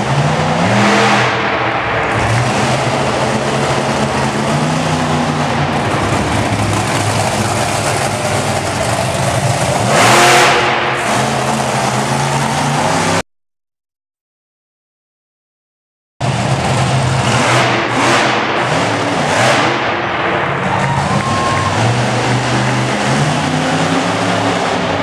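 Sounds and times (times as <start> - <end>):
monster truck engines revving: 0.0 - 13.2, 16.2 - 25.0.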